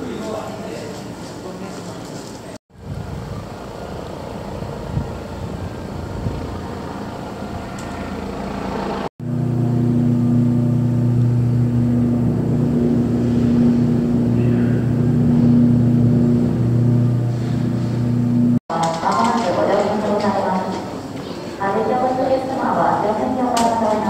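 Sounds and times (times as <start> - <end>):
ferry engines humming: 0.0 - 24.0
outdoor background noise: 0.0 - 24.0.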